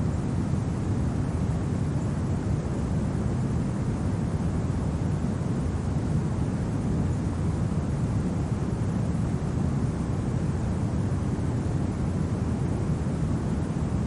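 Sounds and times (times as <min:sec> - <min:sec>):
low rumbling wind: 0:00.0 - 0:14.0.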